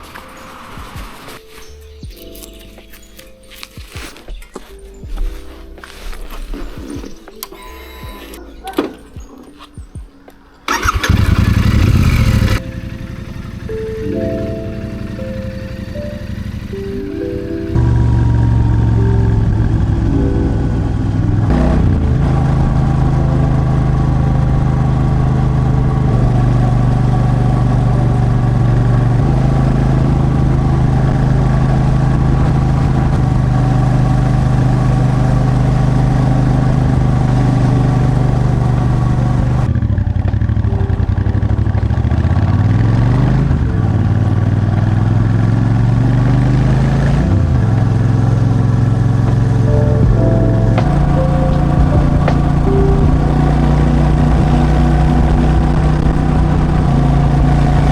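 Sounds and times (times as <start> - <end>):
motorcycle engine running: 10.7 - 57.9.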